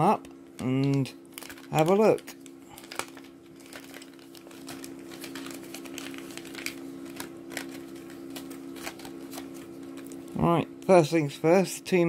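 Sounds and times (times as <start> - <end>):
steady low hum: 0.0 - 12.0
plastic bag crinkling: 0.1 - 10.4.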